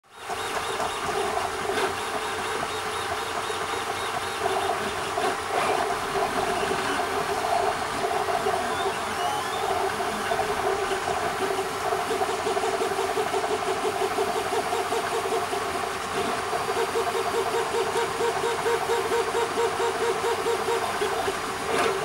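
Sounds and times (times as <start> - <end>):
fan whir: 0.0 - 22.0
stepper motors whining: 0.1 - 22.0.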